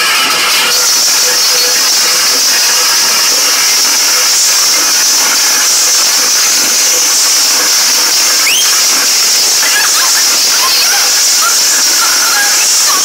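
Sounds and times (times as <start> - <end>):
distorted dance music over loudspeakers: 0.0 - 13.0.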